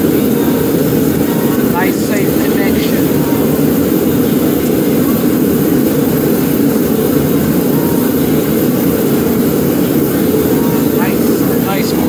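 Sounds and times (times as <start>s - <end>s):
loud steady low drone: 0.0s - 12.0s.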